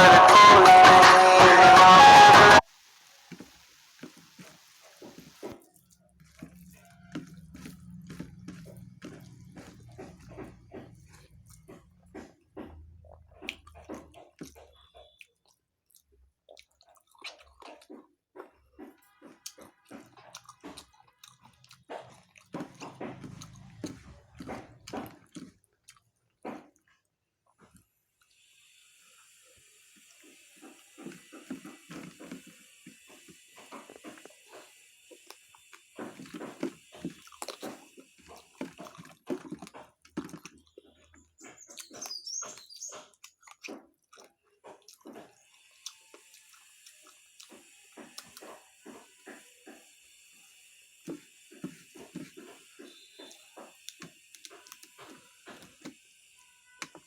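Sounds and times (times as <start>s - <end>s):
wet chewing and lip-smacking: 4.4s - 28.4s, 29.8s - 56.2s.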